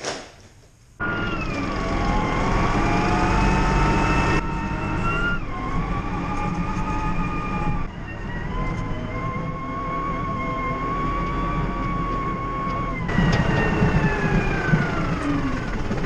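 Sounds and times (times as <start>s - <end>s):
tractor engine running: 1.0s - 16.0s.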